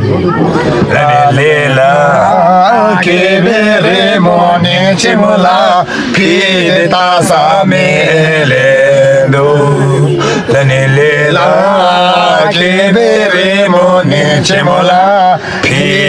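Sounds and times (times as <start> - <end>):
men singing unaccompanied: 0.7 - 16.0.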